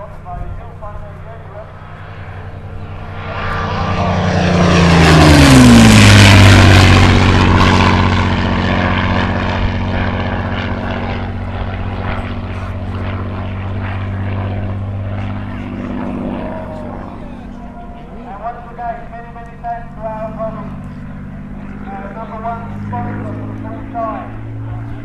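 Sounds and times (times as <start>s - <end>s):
model aircraft engine passing: 0.0s - 25.0s.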